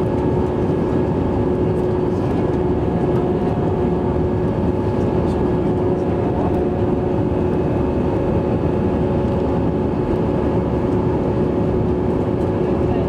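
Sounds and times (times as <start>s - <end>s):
jet engine roar in cabin: 0.0s - 13.0s.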